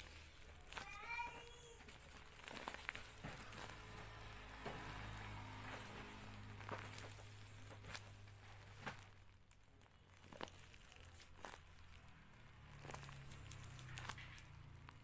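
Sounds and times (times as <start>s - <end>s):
paper crinkling when squeezed: 0.0s - 15.0s.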